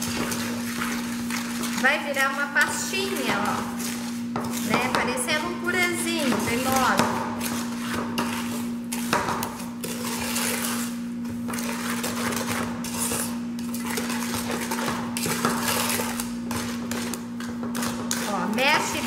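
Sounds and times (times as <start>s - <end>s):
spoon scraping metal pot: 0.0s - 19.0s
steady hum: 0.0s - 19.0s.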